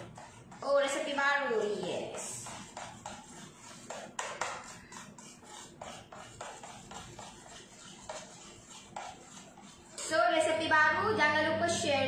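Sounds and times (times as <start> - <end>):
utensil scraping metal bowl: 0.0 - 10.8.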